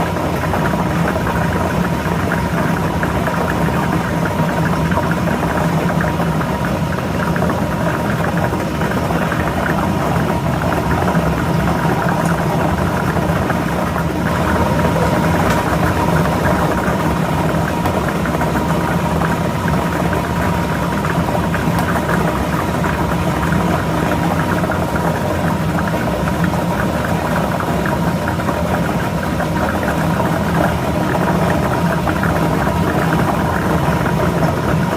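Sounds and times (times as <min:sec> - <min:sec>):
blower motor hum: 0:00.0 - 0:34.9.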